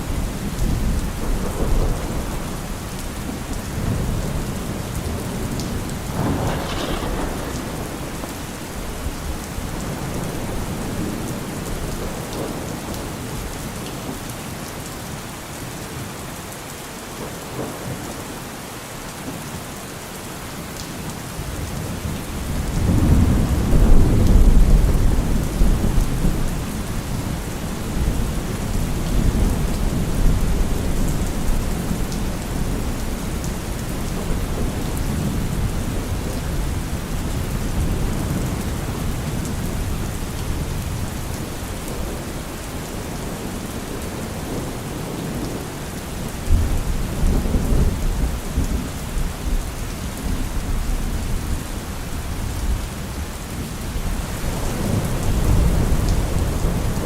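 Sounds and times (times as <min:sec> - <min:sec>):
low rolling thunder: 0:00.0 - 0:13.6, 0:21.4 - 0:49.6, 0:50.2 - 0:57.0
steady rain falling: 0:00.0 - 0:57.0.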